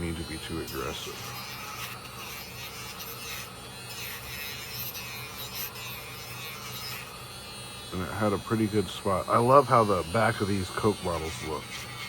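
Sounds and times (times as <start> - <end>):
wire brush scrubbing steel blade: 0.0 - 7.2, 7.9 - 12.0.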